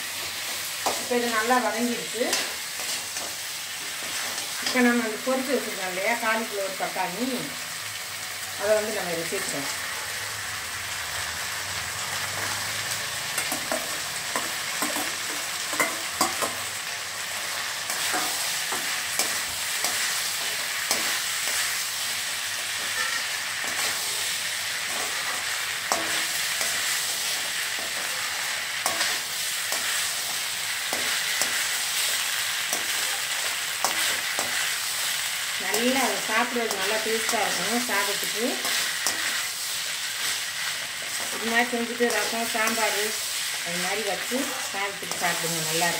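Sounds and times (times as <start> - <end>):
vegetables sizzling in a wok: 0.0 - 45.9.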